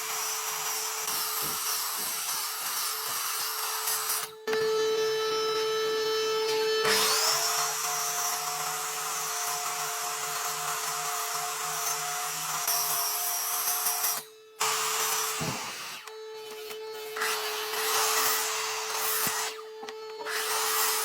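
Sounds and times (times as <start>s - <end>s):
electric power tool whining: 0.0s - 21.0s.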